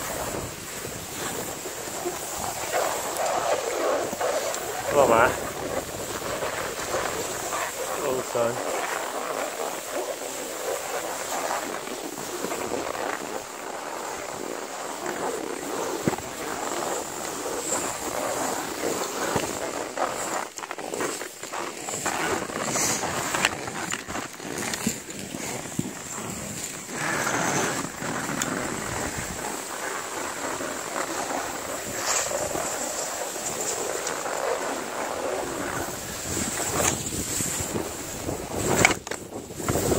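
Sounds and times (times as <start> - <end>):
skis scraping over snow: 0.0 - 39.9
wind rushing over microphone: 0.0 - 39.9.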